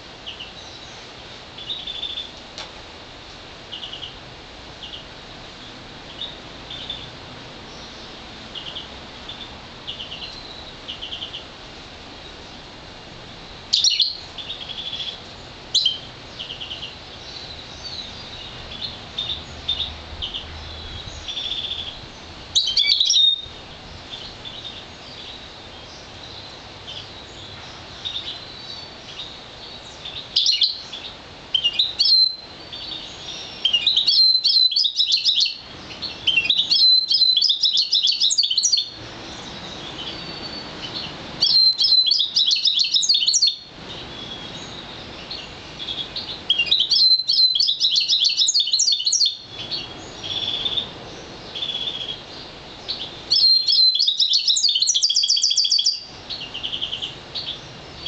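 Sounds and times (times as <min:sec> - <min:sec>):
bird twittering song: 0:00.0 - 0:02.4, 0:03.6 - 0:12.7, 0:13.3 - 0:58.0.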